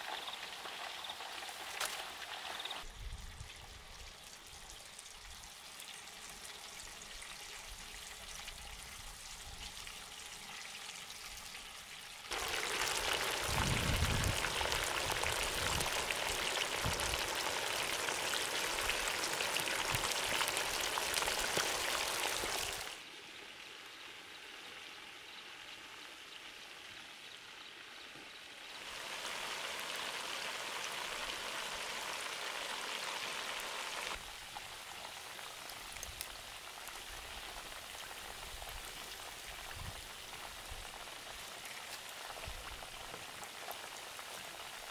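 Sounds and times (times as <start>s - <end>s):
oil sizzling and bubbling: 0.0s - 44.9s.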